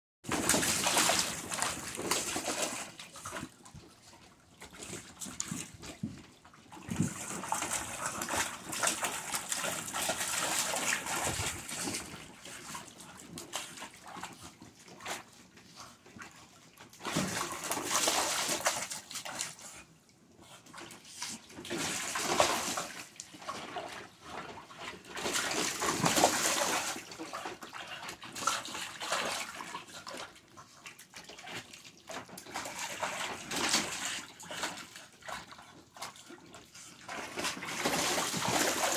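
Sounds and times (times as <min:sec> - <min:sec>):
water splashing in plastic pool: 0:00.2 - 0:38.9.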